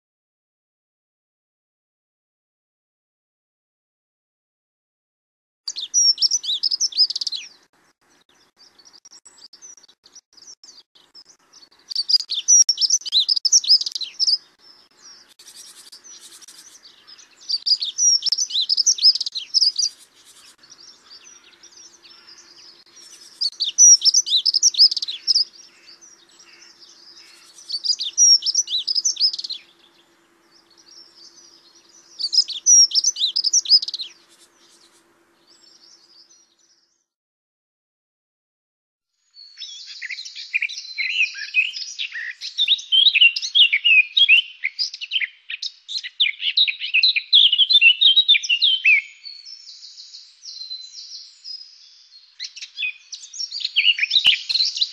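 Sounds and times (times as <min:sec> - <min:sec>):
soft bird twittering: 0:05.7 - 0:37.0, 0:39.2 - 0:54.9
songbird singing: 0:05.7 - 0:37.2, 0:39.2 - 0:54.9.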